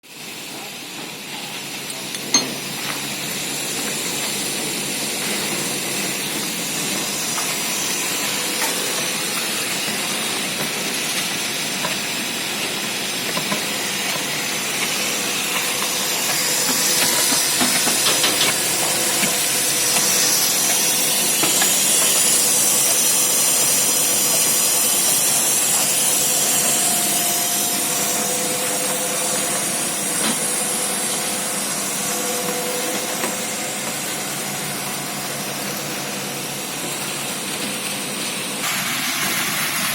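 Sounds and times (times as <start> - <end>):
faint machine hum: 0.1 - 39.9.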